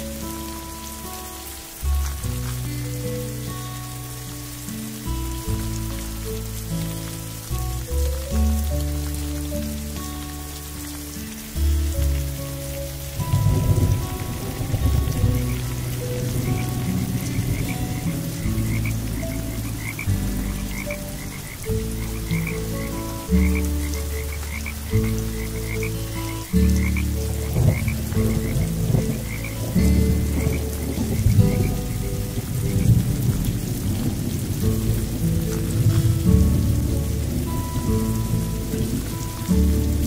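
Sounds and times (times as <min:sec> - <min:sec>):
frogs croaking: 0:00.0 - 0:40.0
steady rain: 0:00.0 - 0:40.0.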